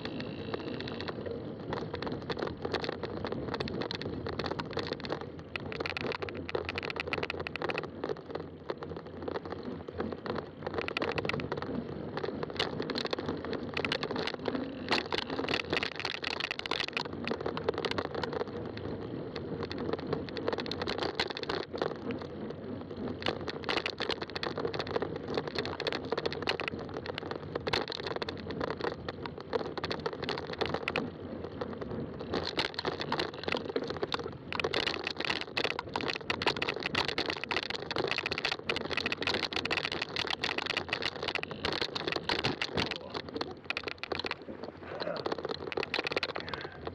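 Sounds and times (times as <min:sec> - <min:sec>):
bike tires rolling on trail: 0:00.0 - 0:46.9
small crackles and clicks: 0:00.0 - 0:46.9.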